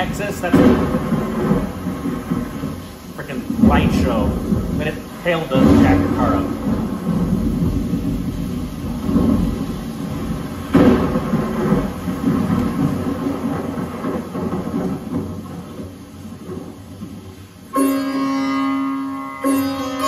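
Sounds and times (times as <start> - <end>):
rolling thunder: 0.0 - 17.8
thunder clap: 0.0 - 17.8.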